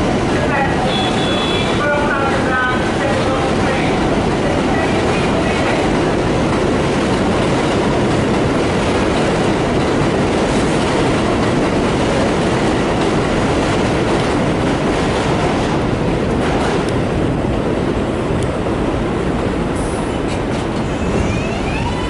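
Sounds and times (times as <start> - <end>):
train rumbling with wheel clatter: 0.0 - 22.0.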